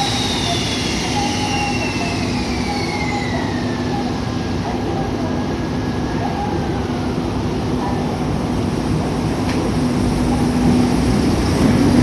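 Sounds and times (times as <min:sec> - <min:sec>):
electric locomotive humming: 0:00.0 - 0:12.0.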